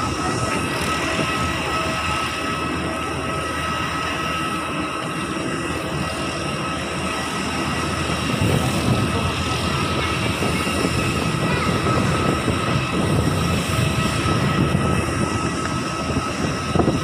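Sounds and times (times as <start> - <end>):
jet airliner whine: 0.0 - 17.0
wind buffeting microphone: 0.0 - 17.0.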